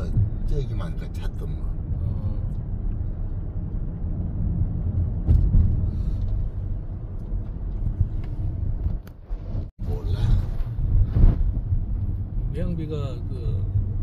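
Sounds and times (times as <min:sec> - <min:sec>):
car engine rumble: 0:00.0 - 0:14.0
tyres on road: 0:00.0 - 0:14.0.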